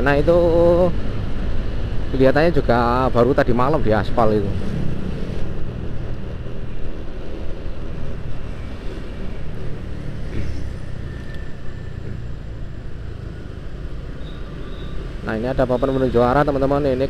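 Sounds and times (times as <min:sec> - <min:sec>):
motorcycle engine and road rumble: 0:00.0 - 0:17.0.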